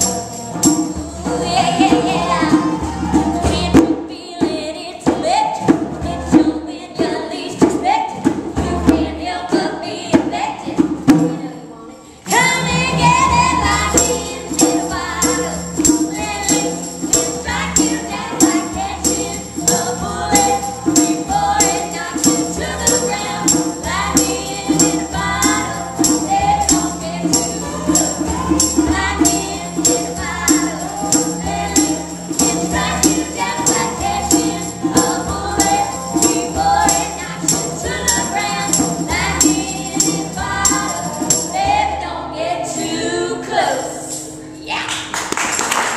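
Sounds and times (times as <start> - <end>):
jingling percussion beat: 0.0 - 11.6, 12.3 - 42.0
women singing in harmony: 0.0 - 44.4
country band: 0.0 - 45.9.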